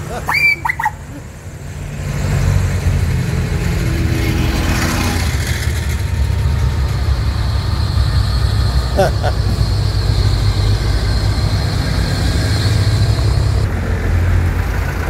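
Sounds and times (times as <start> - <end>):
tractor diesel engines rumbling: 0.0 - 15.0.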